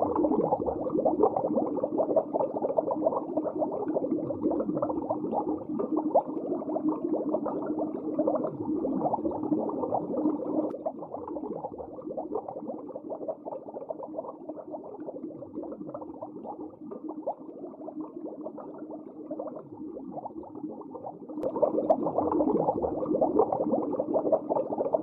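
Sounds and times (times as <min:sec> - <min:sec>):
underwater bubbling and crackling: 0:00.0 - 0:25.0.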